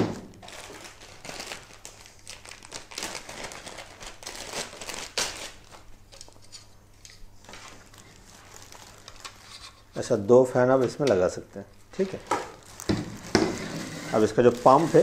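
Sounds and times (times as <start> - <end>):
plastic packaging crinkling: 0.3 - 9.8, 12.1 - 15.0.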